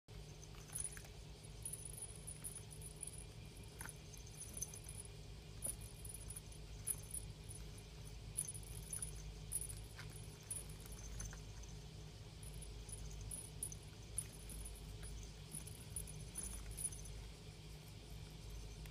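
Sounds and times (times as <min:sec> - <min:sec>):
low steady hum: 0:00.1 - 0:18.9
toy rattling and jingling: 0:00.1 - 0:18.9.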